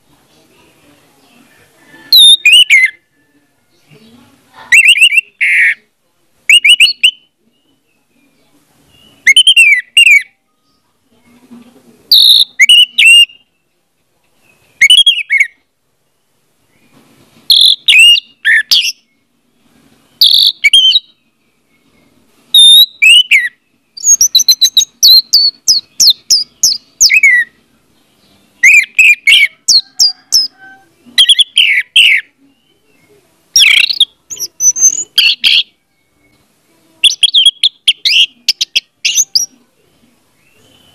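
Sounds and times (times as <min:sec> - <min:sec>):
bird singing whistled notes: 0:01.8 - 0:03.9, 0:04.7 - 0:05.9, 0:06.5 - 0:11.0, 0:12.1 - 0:13.8, 0:14.4 - 0:19.3, 0:20.1 - 0:39.6, 0:40.4 - 0:40.9.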